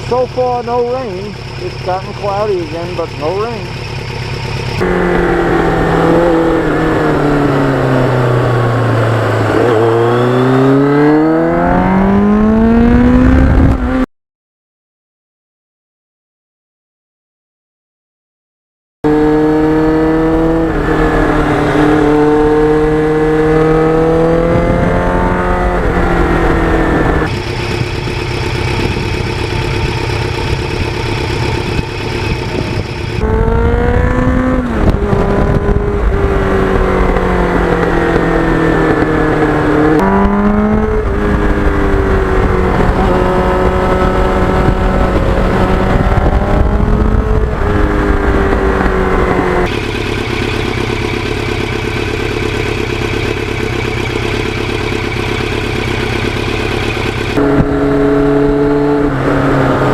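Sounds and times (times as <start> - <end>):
motorcycle engine accelerating: 0.0 - 14.1, 19.0 - 59.9.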